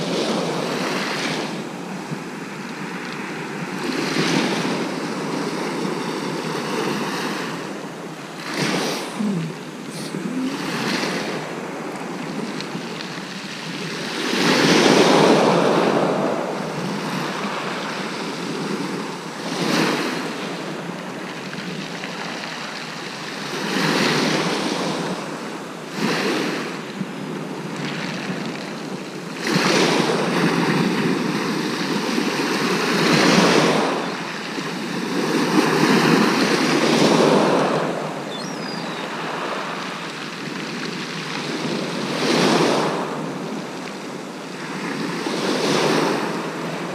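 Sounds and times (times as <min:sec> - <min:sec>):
waves breaking on shingle beach: 0:00.0 - 0:46.9.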